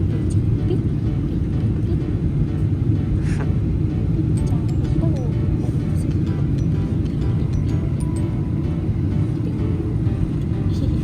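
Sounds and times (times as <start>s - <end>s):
vehicle rumble from inside: 0.0s - 11.0s.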